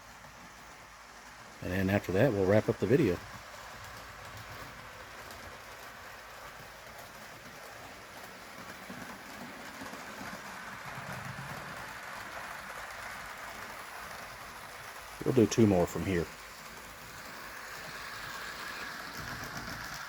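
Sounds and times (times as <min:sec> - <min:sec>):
model train rolling on track: 0:00.0 - 0:20.0.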